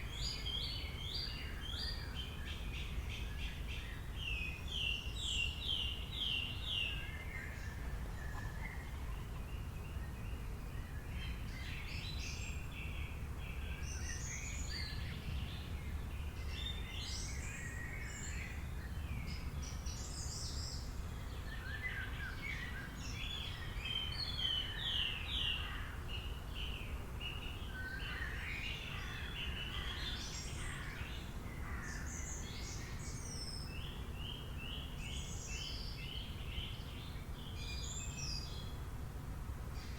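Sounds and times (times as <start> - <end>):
birds chirping and trilling: 0.0 - 38.8.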